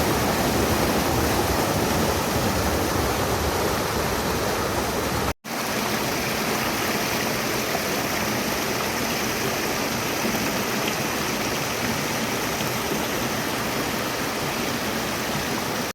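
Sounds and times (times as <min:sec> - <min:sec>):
stream flowing: 0:00.0 - 0:15.9.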